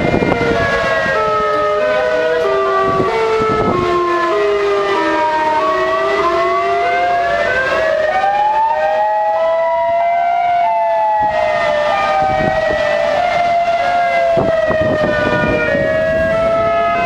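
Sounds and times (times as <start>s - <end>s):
warning sirens wavering: 0.0s - 17.0s.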